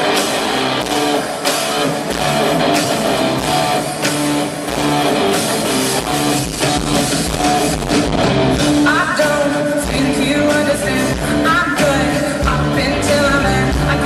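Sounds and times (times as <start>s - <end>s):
electric guitar: 0.0s - 14.0s
steady drum beat: 0.0s - 14.0s.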